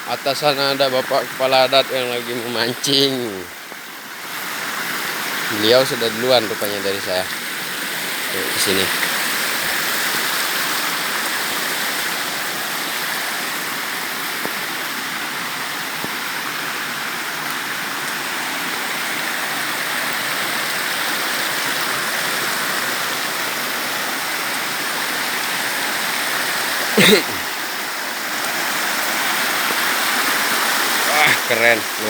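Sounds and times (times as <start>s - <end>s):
river water flowing over rocks: 0.0s - 32.0s.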